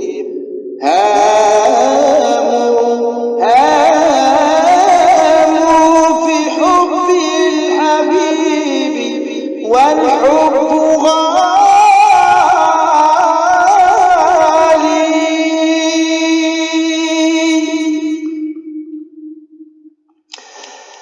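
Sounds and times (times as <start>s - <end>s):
voices singing devotional chant: 0.0s - 18.2s.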